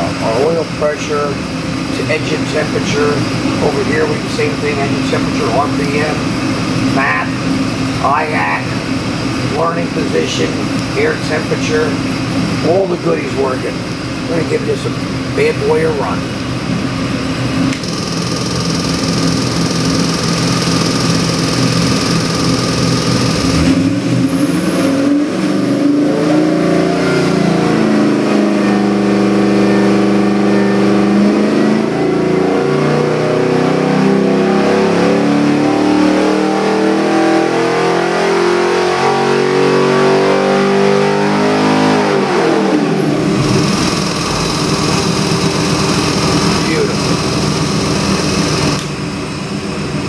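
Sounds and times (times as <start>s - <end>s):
engine revving on dynamometer: 0.0s - 49.8s.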